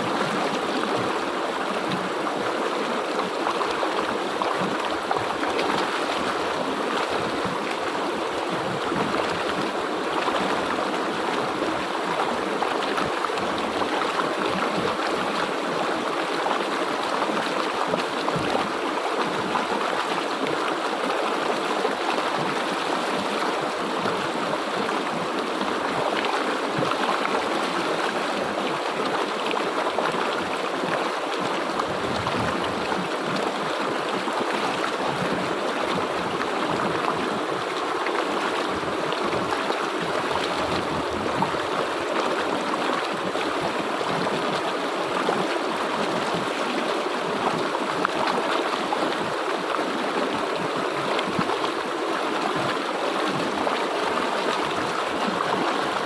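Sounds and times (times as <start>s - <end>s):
river water over rocks: 0.0s - 56.0s.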